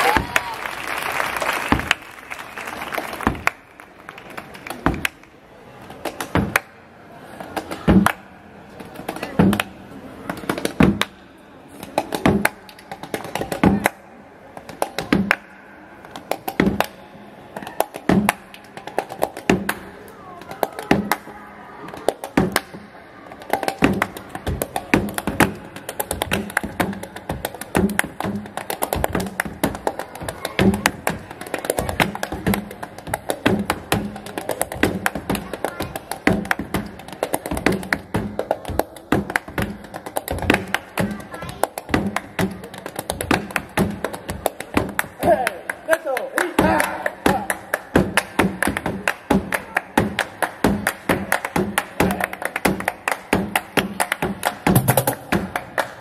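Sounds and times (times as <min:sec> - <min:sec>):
rhythmic handclaps: 0:00.0 - 0:05.3, 0:06.0 - 0:06.8, 0:11.8 - 0:14.0, 0:14.6 - 0:17.0, 0:17.6 - 0:21.3, 0:21.9 - 0:56.0.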